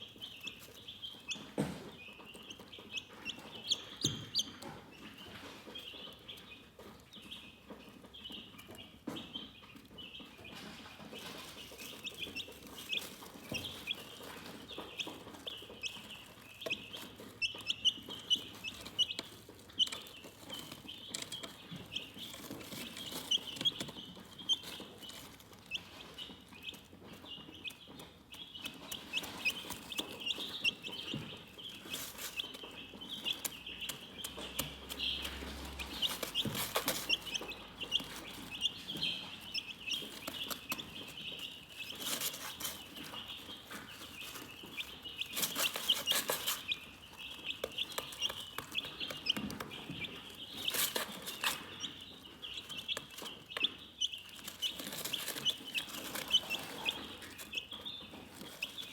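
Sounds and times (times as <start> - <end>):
chicks peeping: 0.0 - 58.9.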